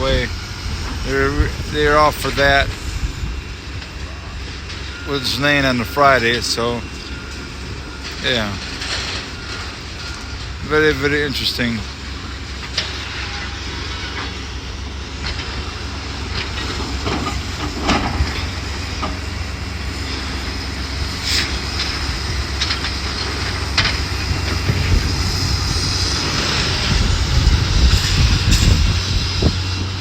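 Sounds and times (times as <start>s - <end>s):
demolition machinery rumbling: 0.0s - 30.0s
metal and debris clanking: 3.8s - 14.5s, 15.1s - 29.9s.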